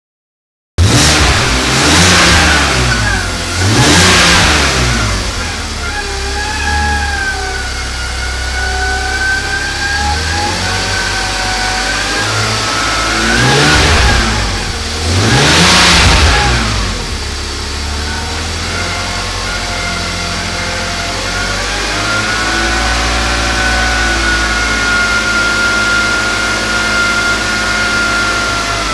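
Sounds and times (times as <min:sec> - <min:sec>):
car engine idling and revving: 0:00.8 - 0:28.9.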